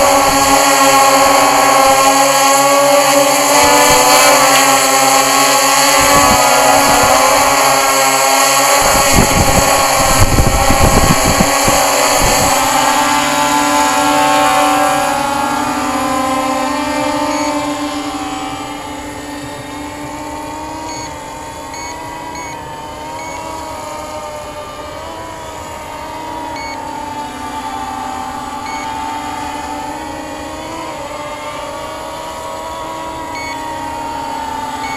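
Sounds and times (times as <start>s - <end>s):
quadcopter propellers whirring: 0.0s - 34.9s.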